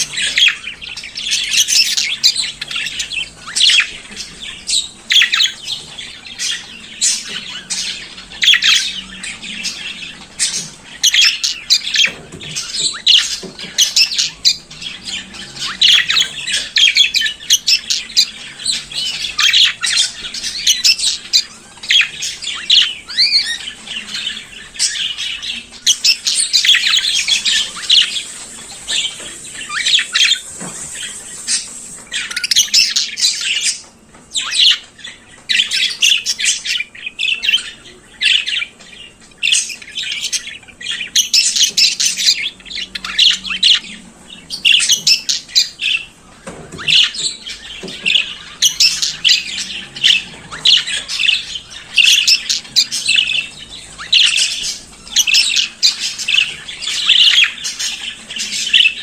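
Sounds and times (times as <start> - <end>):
budgerigars chattering and warbling: 0.0 - 59.0.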